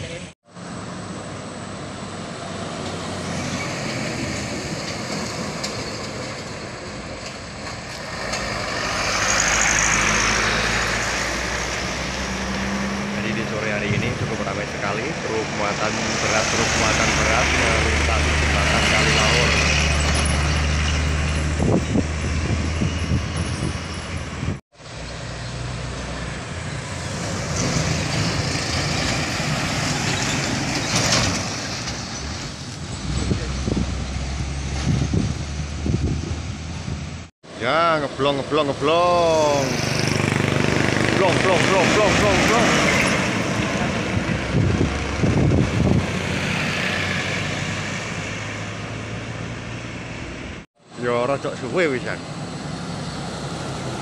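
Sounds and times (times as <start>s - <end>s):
steady traffic rush: 0.0s - 54.0s
truck driving past: 0.5s - 50.7s, 51.3s - 54.0s.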